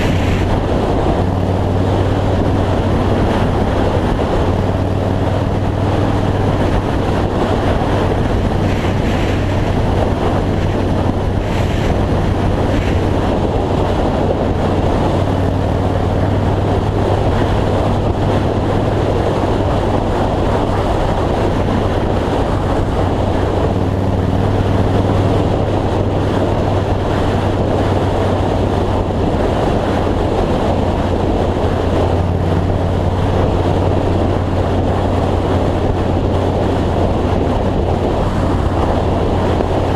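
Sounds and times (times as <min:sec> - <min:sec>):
motorcycle engine humming: 0:00.0 - 0:39.9
wind rush on microphone: 0:00.0 - 0:39.9.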